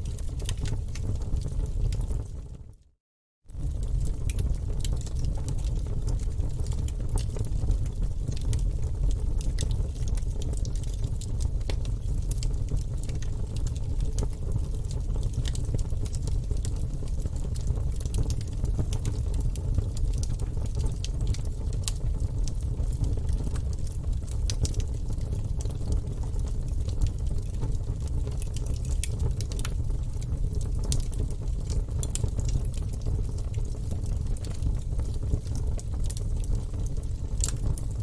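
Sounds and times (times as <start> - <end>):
flames rumbling: 0.0 - 2.7, 3.5 - 38.0
logs crackling and popping: 0.1 - 2.3, 3.6 - 37.8.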